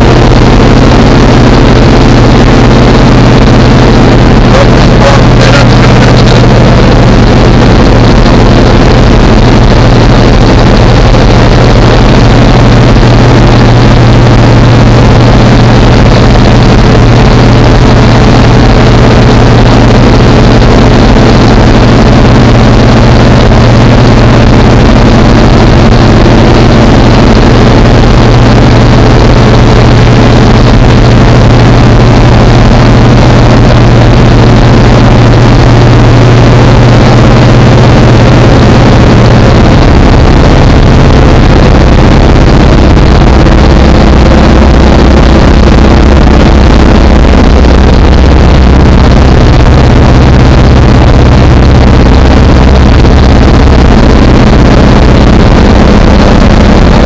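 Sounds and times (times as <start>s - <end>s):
aircraft engines droning in cabin: 0.0s - 57.0s
rushing air noise: 0.0s - 57.0s.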